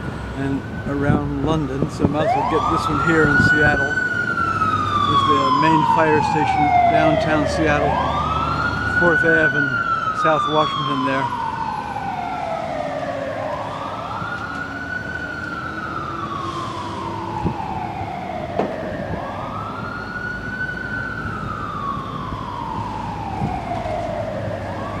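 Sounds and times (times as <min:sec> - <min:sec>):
emergency vehicle siren wailing: 0:00.0 - 0:25.0.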